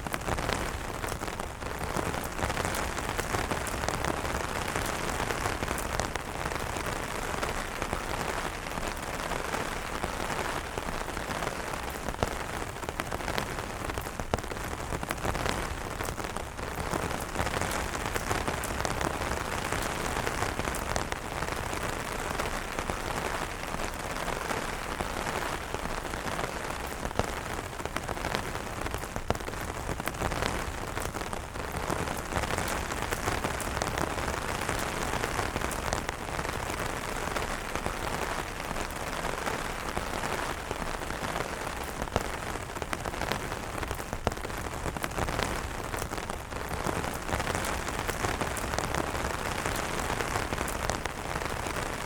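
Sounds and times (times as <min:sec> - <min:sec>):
rain on umbrella fabric: 0:00.0 - 0:52.0.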